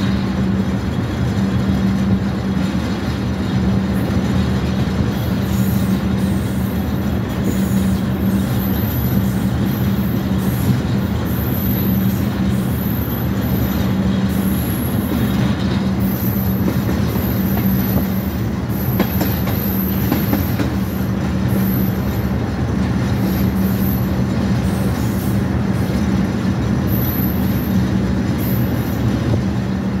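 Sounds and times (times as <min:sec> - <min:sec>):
locomotive engine hum: 0:00.0 - 0:30.0
rail clicks: 0:00.0 - 0:30.0
wheels rumbling on rail: 0:00.0 - 0:30.0.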